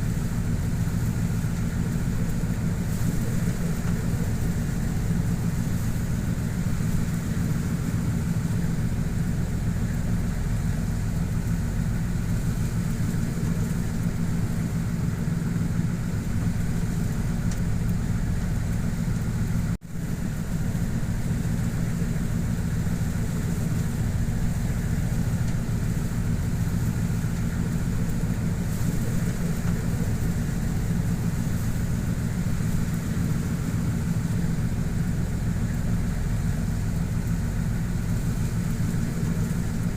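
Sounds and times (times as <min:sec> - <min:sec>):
boat engine humming: 0:00.0 - 0:39.9
steady hiss: 0:00.0 - 0:39.9.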